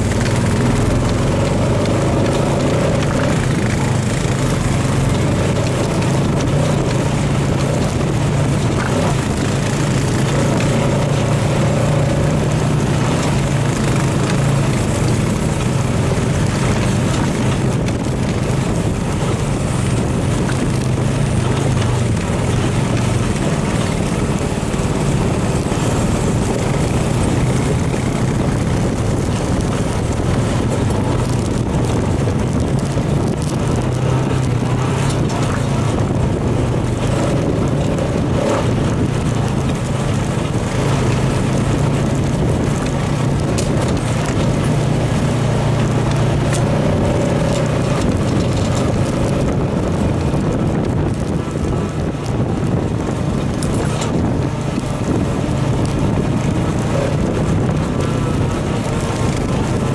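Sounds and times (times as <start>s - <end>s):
quad bike engine running: 0.0s - 59.9s
rushing noise: 0.0s - 59.9s.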